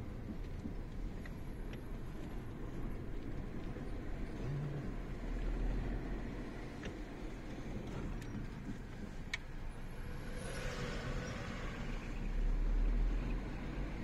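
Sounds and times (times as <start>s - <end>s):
car engine and road noise rumble: 0.0s - 14.0s.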